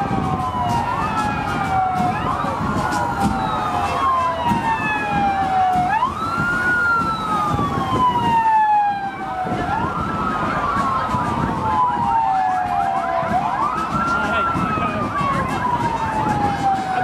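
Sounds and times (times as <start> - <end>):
vehicle siren wailing: 0.0 - 17.0.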